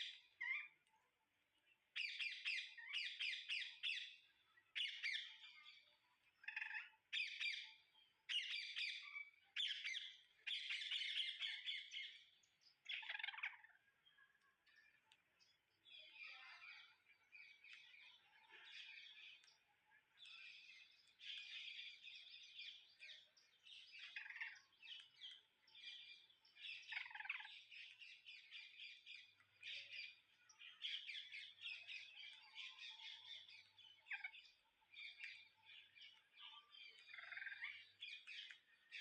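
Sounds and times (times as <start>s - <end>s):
parrots chirping and chattering: 0.0s - 0.9s, 2.0s - 39.0s.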